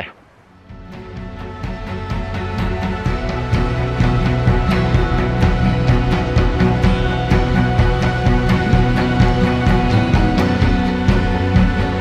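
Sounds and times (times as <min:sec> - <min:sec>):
background music with beat: 0:00.6 - 0:12.0.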